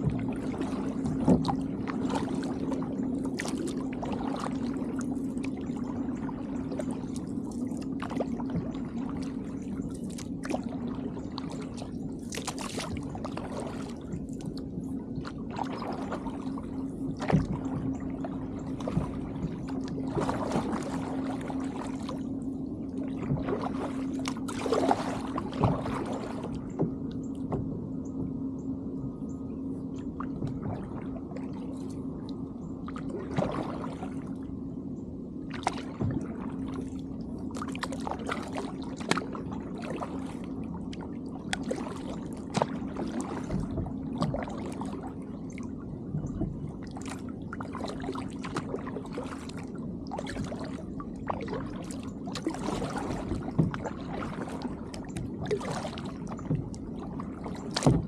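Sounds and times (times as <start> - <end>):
kayak paddles splashing in water: 0.0 - 27.7, 32.8 - 34.4, 35.5 - 58.0
steady low hum: 0.0 - 58.0.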